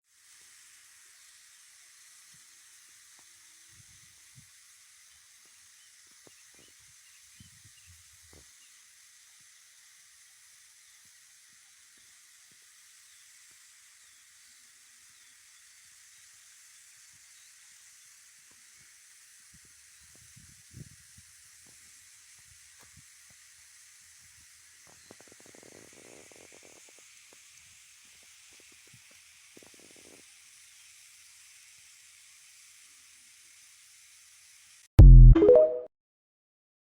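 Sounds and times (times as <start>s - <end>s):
faint steady hiss: 0.1s - 34.7s.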